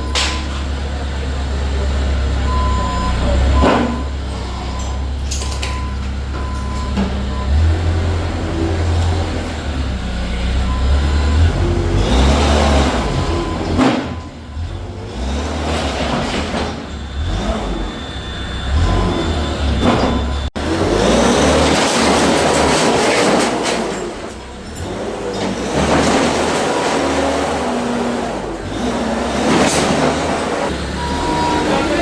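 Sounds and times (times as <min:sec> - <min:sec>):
heavy diesel engine rumbling: 0:00.0 - 0:32.0.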